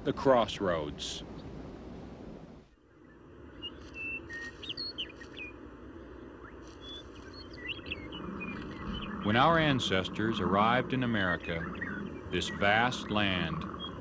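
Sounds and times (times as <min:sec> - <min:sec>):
outdoor background rush: 0:00.0 - 0:14.0
birds chirping and whistling: 0:02.8 - 0:14.0.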